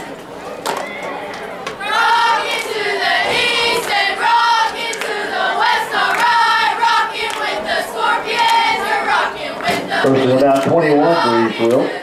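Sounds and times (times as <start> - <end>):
crowd chanting a cheer: 0.0 - 12.0
crowd noise: 0.0 - 12.0.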